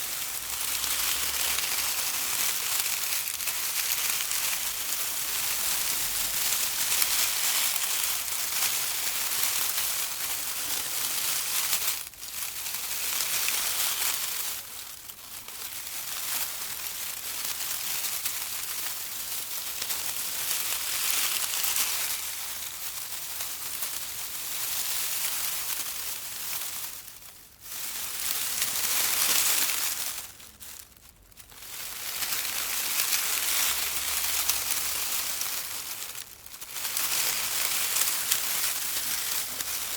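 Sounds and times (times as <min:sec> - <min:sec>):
bush leaves and twigs rustling: 0:00.0 - 0:39.9.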